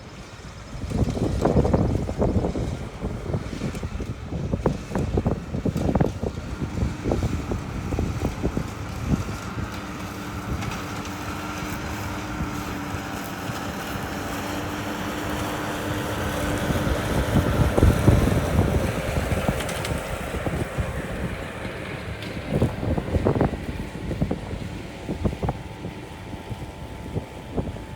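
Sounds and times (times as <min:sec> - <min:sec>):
aircraft engines whining: 0:00.0 - 0:27.9
wind buffeting microphone: 0:00.0 - 0:27.9.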